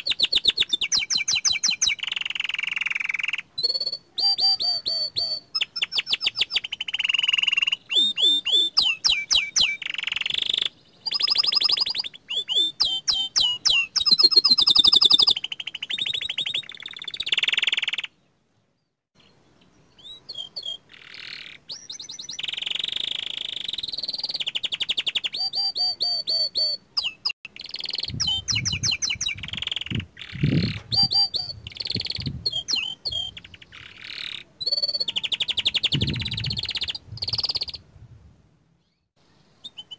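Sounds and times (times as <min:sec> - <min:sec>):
canary singing trills: 0:00.0 - 0:18.3, 0:19.2 - 0:37.8, 0:38.8 - 0:39.9.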